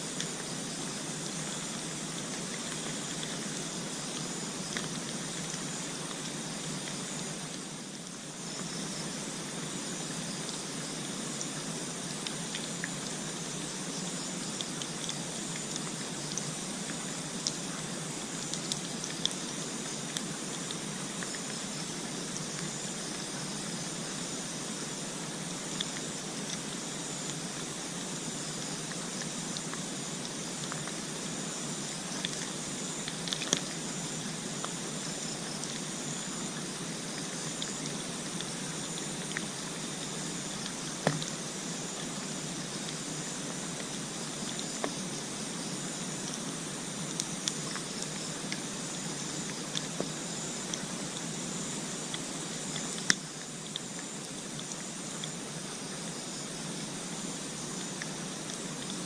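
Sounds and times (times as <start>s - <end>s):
water-like rushing noise: 0.0s - 59.0s.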